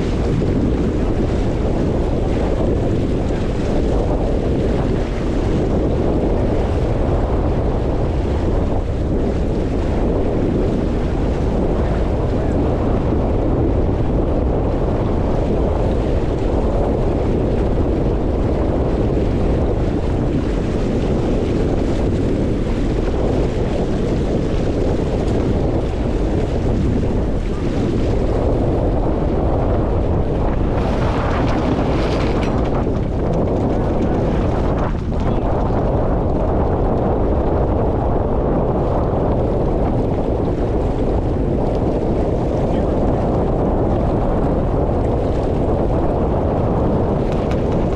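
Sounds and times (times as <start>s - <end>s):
water rushing along hull: 0.0s - 47.9s
wind buffeting microphone: 0.0s - 47.9s.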